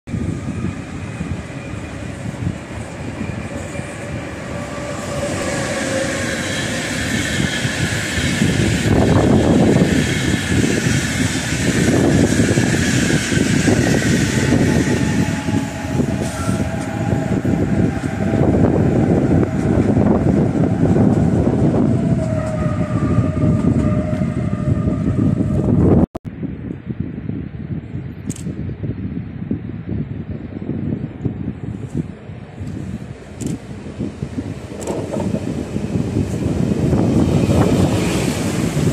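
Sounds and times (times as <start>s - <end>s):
train wheels rumbling on rail: 0.1s - 26.1s, 27.8s - 38.9s.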